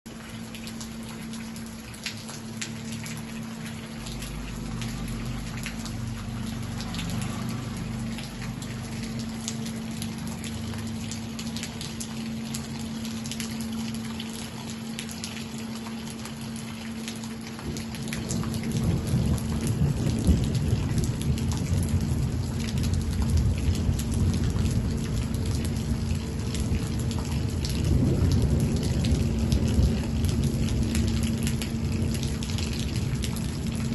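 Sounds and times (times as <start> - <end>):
faint steady hum: 0.1 - 33.9
rain falling: 0.1 - 33.9.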